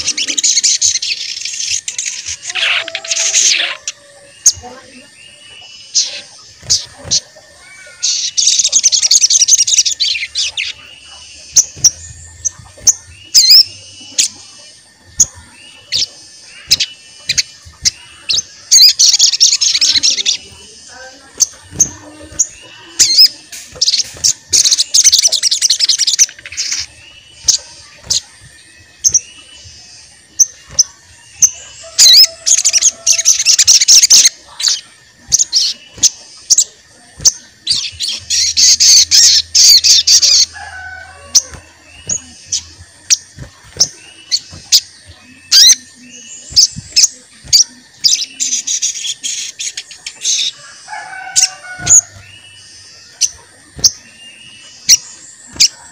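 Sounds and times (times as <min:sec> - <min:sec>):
rapid high bird twittering: 0:00.0 - 0:55.9
songbird chirps: 0:00.0 - 0:55.9.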